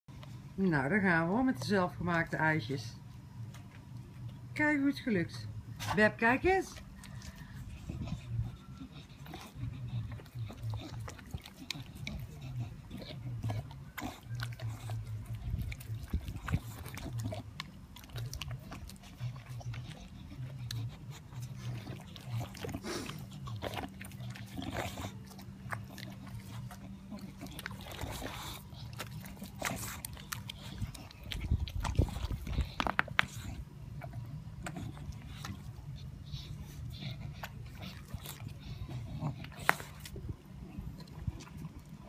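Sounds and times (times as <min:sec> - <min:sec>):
dogs licking and chewing: 0:00.1 - 0:42.0.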